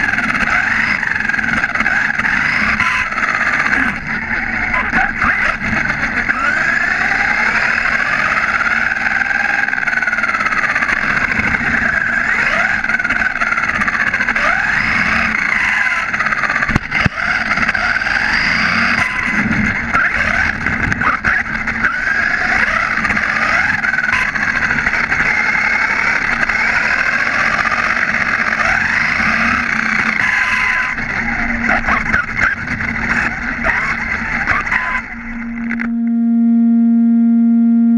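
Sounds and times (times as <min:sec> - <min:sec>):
small tyres rumbling on asphalt: 0:00.0 - 0:35.8
electric motor whining: 0:00.0 - 0:37.9.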